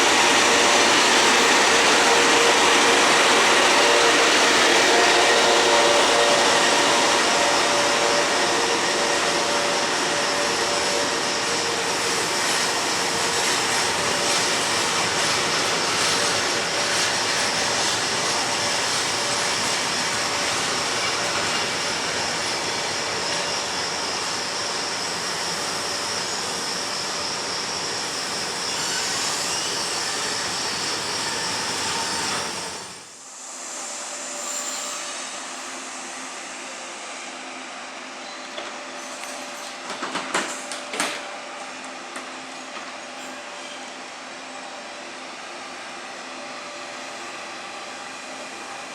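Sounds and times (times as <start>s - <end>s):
train wheel rush: 0.0s - 48.9s.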